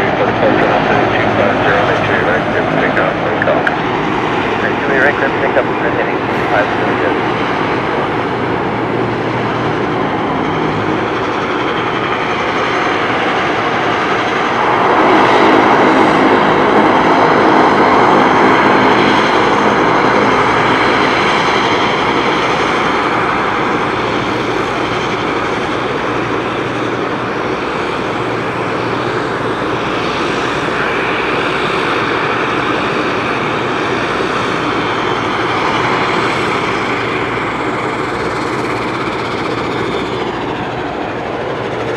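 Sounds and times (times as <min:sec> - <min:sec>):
pitched propeller hum: 0:00.0 - 0:41.9
turboprop engines droning: 0:00.0 - 0:41.9.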